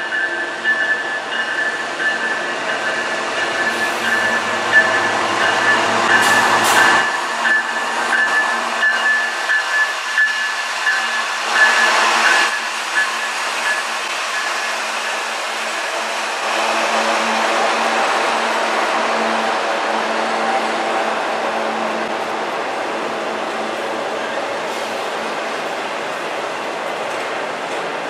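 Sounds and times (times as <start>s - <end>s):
diesel locomotives rumbling: 0.0s - 28.0s
steel wheels rolling on rail: 0.0s - 28.0s.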